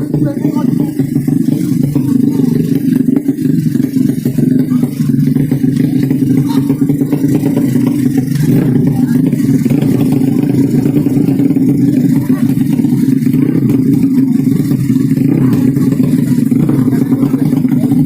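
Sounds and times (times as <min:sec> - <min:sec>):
motorcycle engine running loud: 0:00.0 - 0:18.0.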